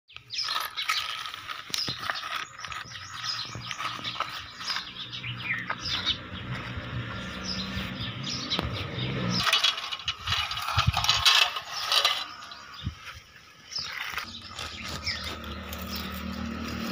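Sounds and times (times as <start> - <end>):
birds chirping: 0.1 - 16.9
toy vehicles scraping through dirt: 0.1 - 16.9.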